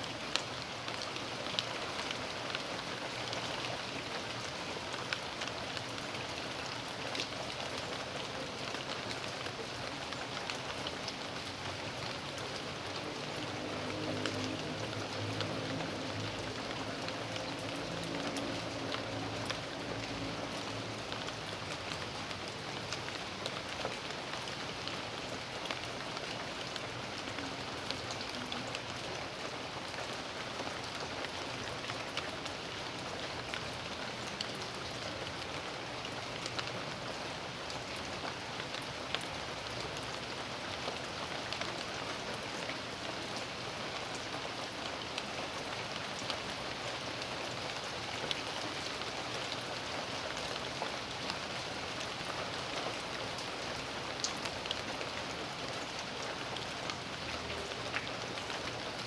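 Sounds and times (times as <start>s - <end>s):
raindrops ticking on surfaces: 0.0s - 59.0s
steady rain hiss: 0.0s - 59.0s.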